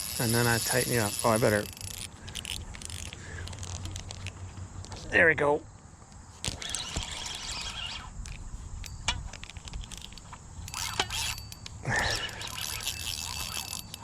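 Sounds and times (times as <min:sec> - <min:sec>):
fishing reel being cranked: 0:00.0 - 0:04.3, 0:06.5 - 0:14.0
reel and rod clicks and rattles: 0:00.0 - 0:05.0, 0:06.4 - 0:14.0.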